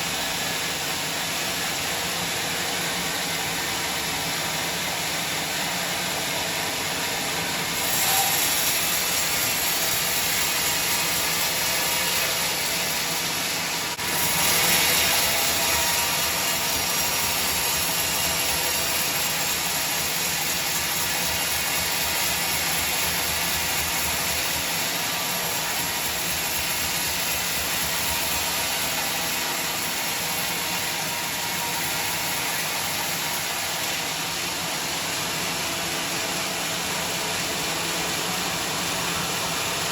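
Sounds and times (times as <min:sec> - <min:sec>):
power saw cutting wood: 0:02.2 - 0:39.9.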